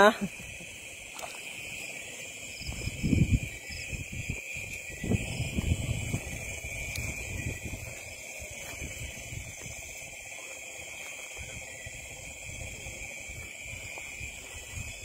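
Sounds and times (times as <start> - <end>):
insects calling: 0.0 - 15.0
footsteps through tall grass: 1.1 - 1.9, 2.5 - 12.6, 13.2 - 15.0.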